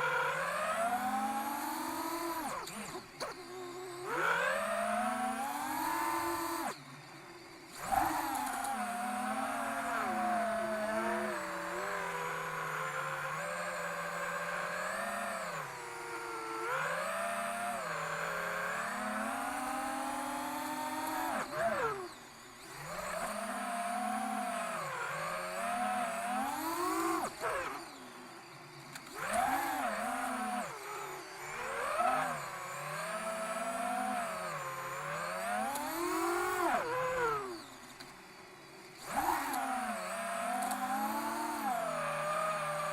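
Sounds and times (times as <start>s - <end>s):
drone motor whine: 0.0s - 42.9s.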